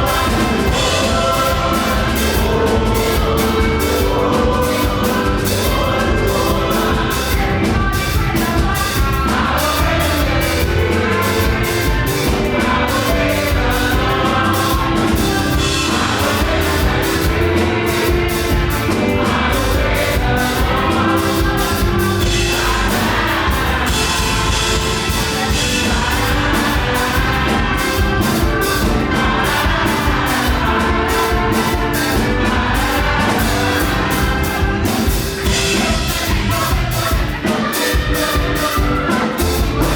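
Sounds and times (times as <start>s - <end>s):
fast drum-kit beat: 0.0s - 39.9s
gospel band playing: 0.0s - 39.9s
group of voices singing: 0.0s - 39.9s.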